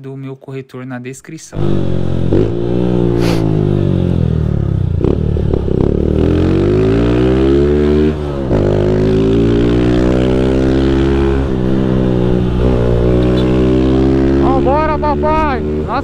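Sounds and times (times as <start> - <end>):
motorcycle engine revving: 1.5 - 16.0.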